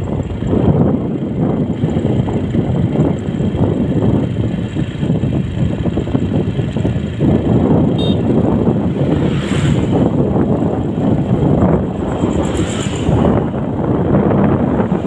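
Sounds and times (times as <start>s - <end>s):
vehicle running noise: 0.0s - 15.0s
wind buffeting microphone: 0.0s - 15.0s.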